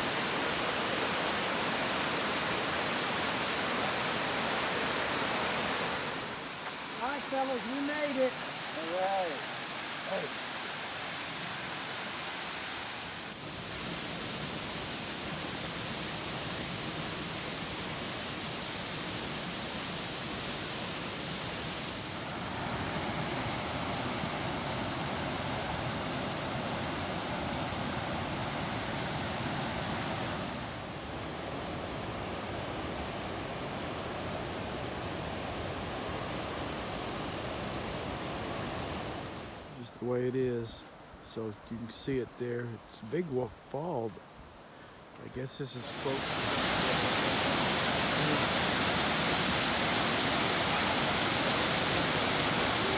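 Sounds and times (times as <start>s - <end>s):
waterfall rushing water: 0.0s - 31.2s, 35.4s - 52.9s.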